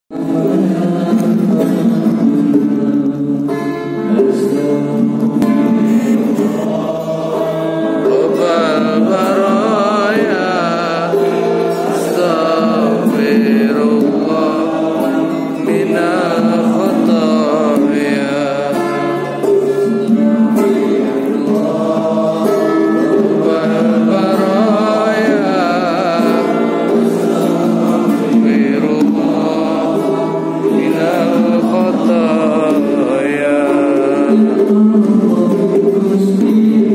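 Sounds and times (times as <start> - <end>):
men singing a chant: 0.1 - 36.9.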